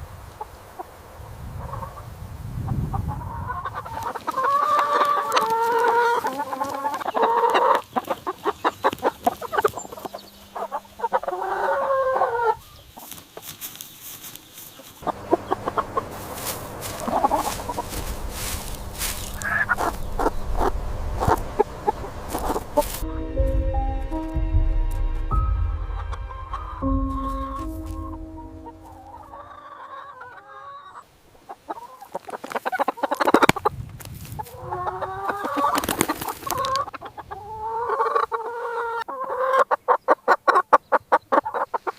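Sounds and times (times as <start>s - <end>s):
chickens clucking: 0.3s - 23.2s, 26.0s - 33.7s, 34.3s - 41.9s.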